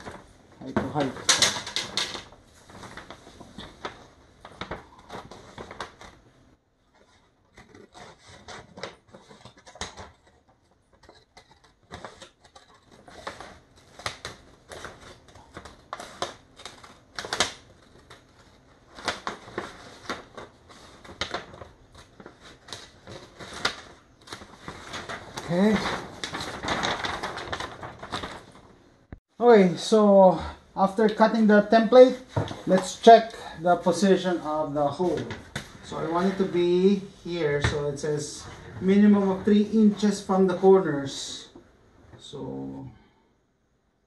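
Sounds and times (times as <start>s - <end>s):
paper rustling: 0.0s - 28.8s, 31.0s - 41.6s.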